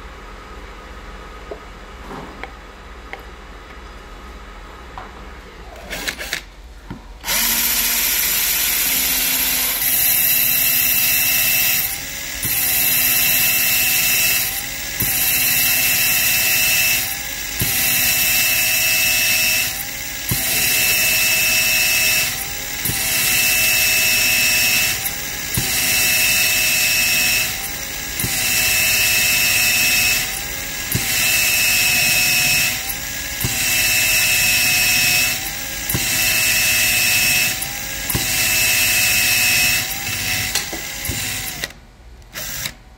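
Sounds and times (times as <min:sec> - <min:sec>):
cordless drill whining: 0:05.9 - 0:06.5, 0:07.2 - 0:42.8.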